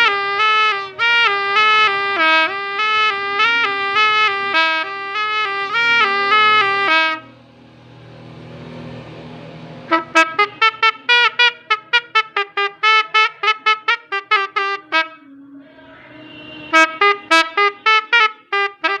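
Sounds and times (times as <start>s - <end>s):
multi-tone horn melody: 0.0s - 7.4s, 9.9s - 19.0s.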